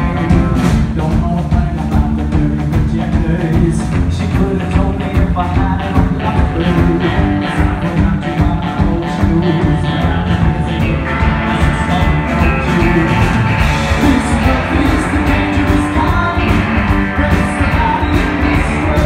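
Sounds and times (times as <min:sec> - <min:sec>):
drum kit beat: 0:00.0 - 0:19.0
electric bass: 0:00.0 - 0:19.0
electric guitars: 0:00.0 - 0:19.0.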